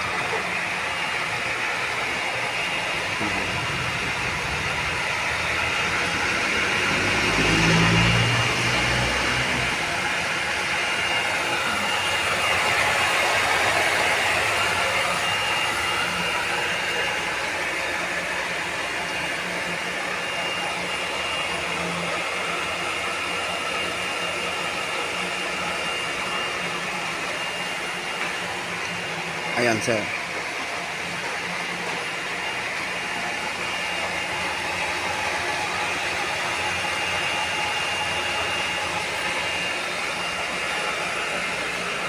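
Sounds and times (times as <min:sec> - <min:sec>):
water pump motor hum and whine: 0:00.0 - 0:42.0.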